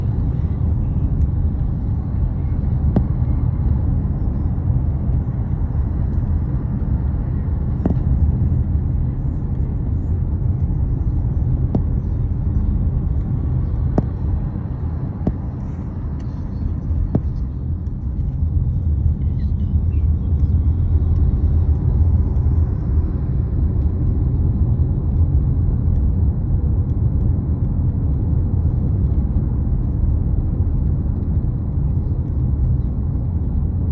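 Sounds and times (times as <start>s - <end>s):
truck engines rumbling: 0.0s - 33.9s.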